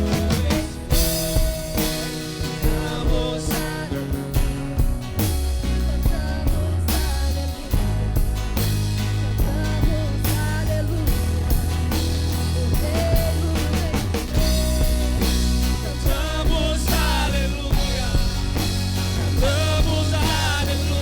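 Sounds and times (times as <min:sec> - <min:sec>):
bass line: 0:00.0 - 0:21.0
drum kit beat: 0:00.0 - 0:21.0
guitar: 0:00.0 - 0:21.0.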